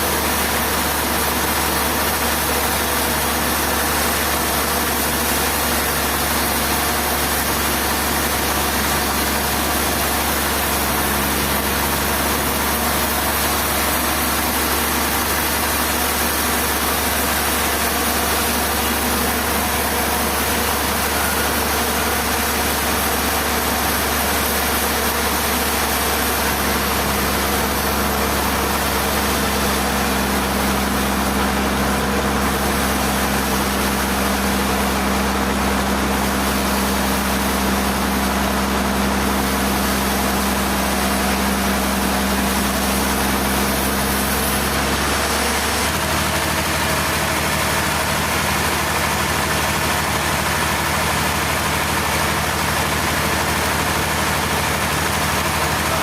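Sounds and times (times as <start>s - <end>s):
machinery running steadily: 0.0s - 56.0s.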